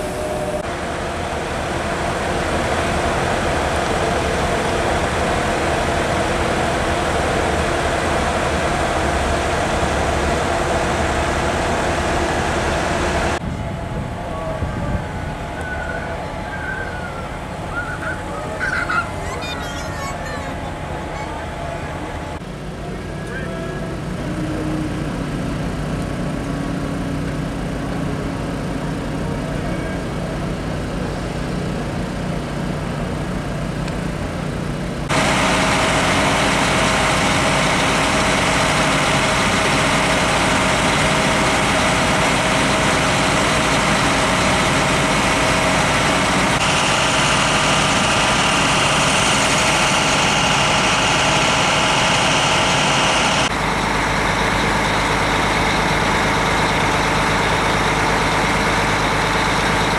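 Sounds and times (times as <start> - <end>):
diesel truck engines idling: 0.0 - 59.9.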